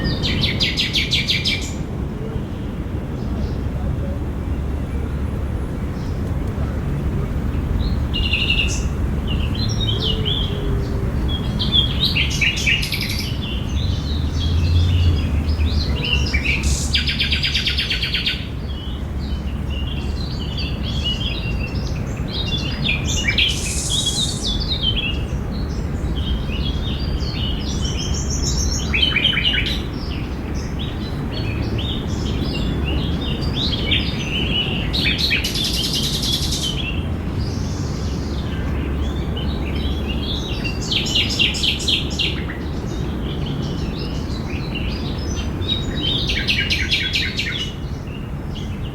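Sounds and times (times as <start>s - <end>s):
small birds chirping: 2.7s - 48.9s.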